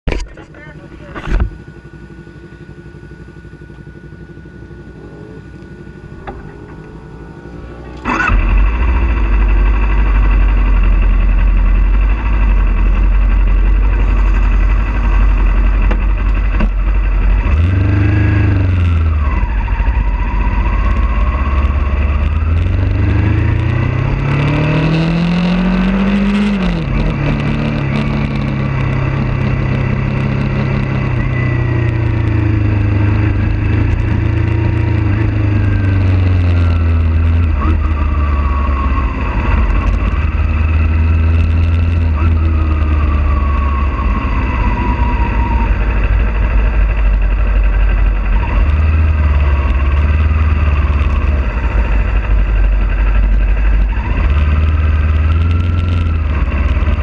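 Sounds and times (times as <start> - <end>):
motorcycle engine revving: 0.1 - 57.0.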